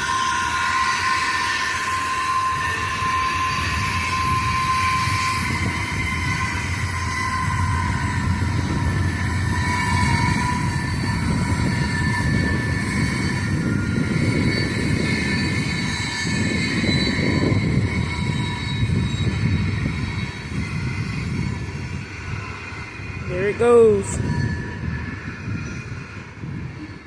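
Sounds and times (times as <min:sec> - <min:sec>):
train rumbling on tracks: 0:00.0 - 0:27.0.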